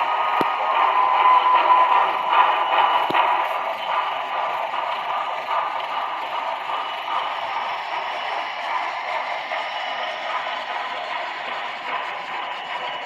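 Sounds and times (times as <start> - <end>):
model trains whirring on track: 0.0 - 13.0.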